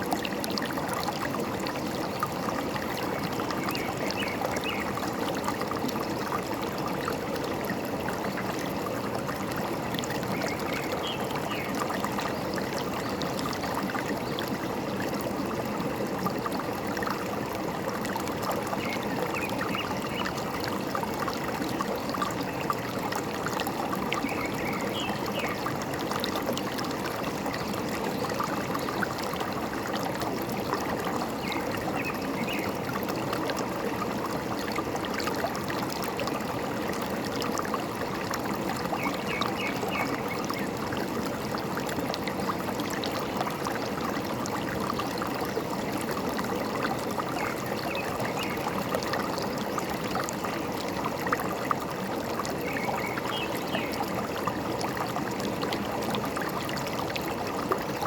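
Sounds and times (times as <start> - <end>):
stream trickling and gurgling: 0.0 - 58.0.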